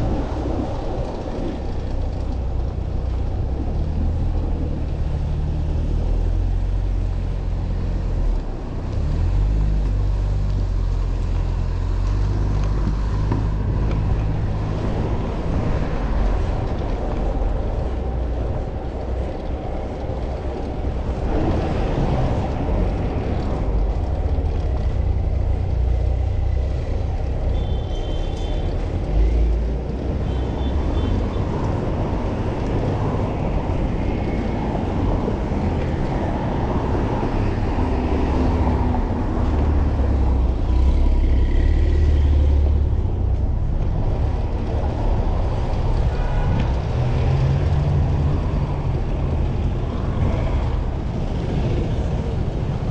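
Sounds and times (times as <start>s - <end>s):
road and traffic noise: 0.0s - 52.9s
wind rumble on microphone: 0.0s - 52.9s.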